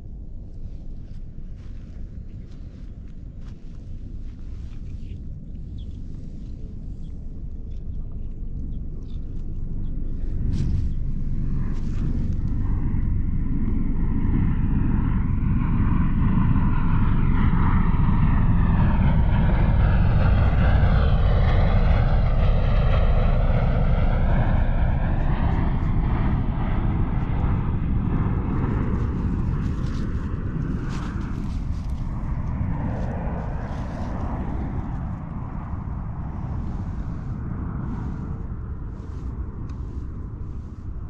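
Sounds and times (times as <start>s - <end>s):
airplane flying overhead: 0.0s - 41.0s.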